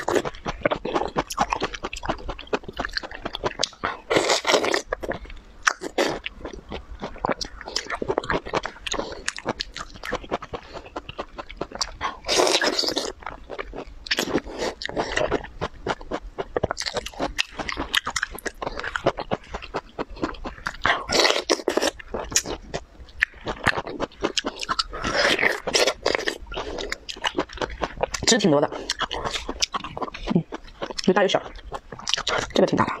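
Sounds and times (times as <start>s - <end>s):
chewing juicy pear: 0.0s - 33.0s.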